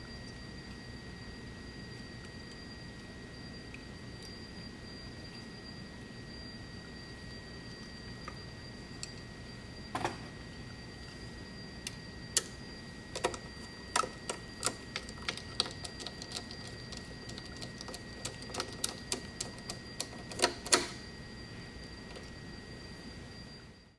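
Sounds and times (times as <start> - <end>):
faint high-pitched whine: 0.0 - 23.9.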